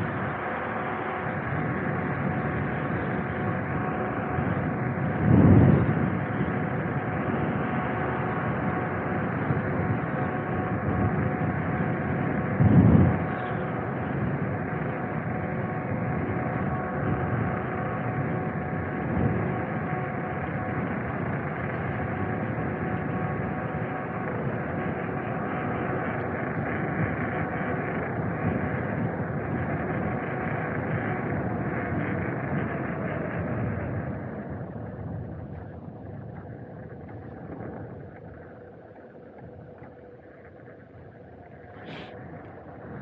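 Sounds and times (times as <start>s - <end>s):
faint electric whine: 0.0s - 43.0s
road rumble: 0.0s - 43.0s
rushing wind: 0.0s - 43.0s.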